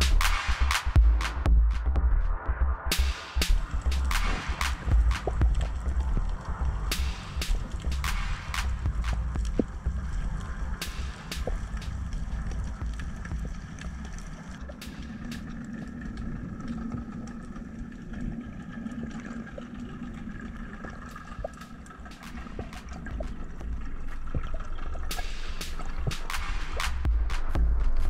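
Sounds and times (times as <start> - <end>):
low underwater rumble: 1.0 - 28.0
sharp clicks and crackles: 3.4 - 28.0.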